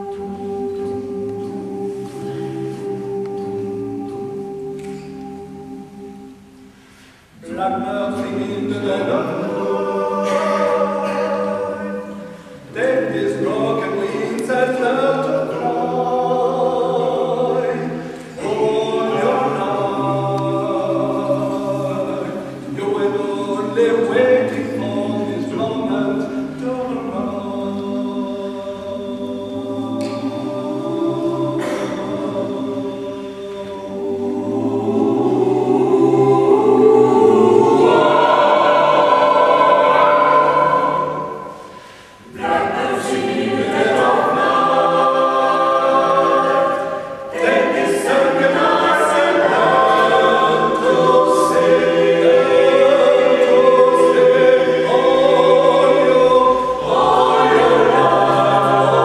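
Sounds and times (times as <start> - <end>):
a cappella group singing: 0.0 - 59.0.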